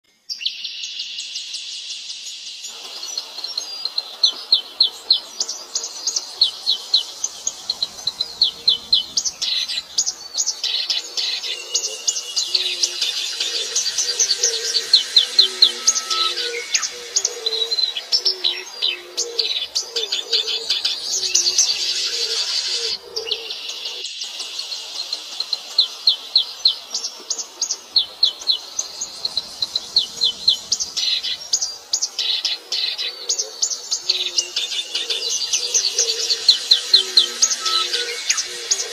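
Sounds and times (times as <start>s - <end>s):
small songbirds chirping: 0.0s - 38.9s
high insect hum: 1.0s - 38.9s.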